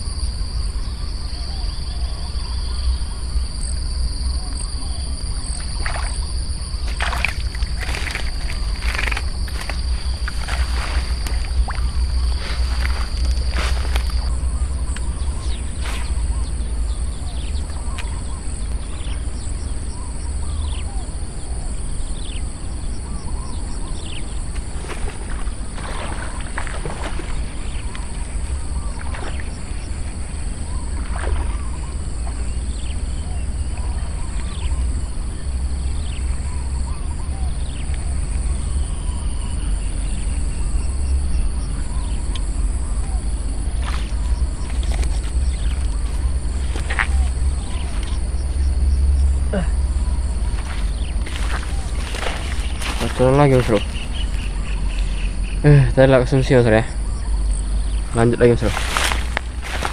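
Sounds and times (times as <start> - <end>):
high insect drone: 0.0 - 59.9
wind rumbling on microphone: 0.0 - 59.9.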